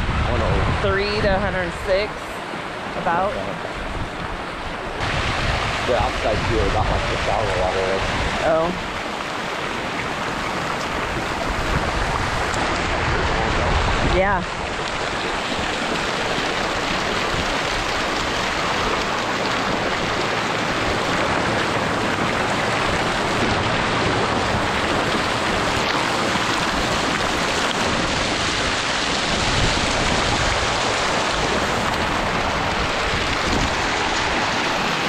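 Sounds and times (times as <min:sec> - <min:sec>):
fountain water splashing into pool: 0:04.9 - 0:35.0.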